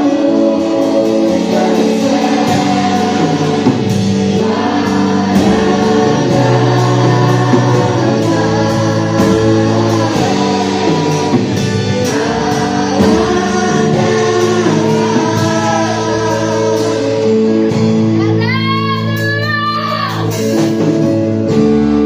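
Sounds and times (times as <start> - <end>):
choir singing worship song: 0.0 - 21.5
band with steady drum beat: 0.0 - 22.0.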